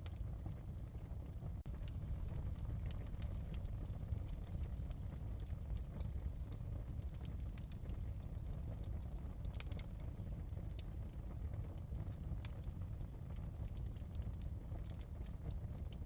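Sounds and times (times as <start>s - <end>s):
wood fire crackling: 0.0s - 16.0s
steady low rumble: 0.1s - 13.8s.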